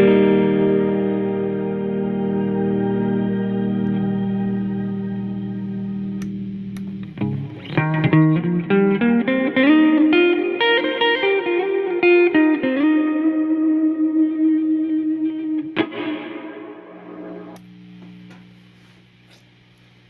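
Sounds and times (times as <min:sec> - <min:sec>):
electric guitar with reverb: 0:00.0 - 0:18.4.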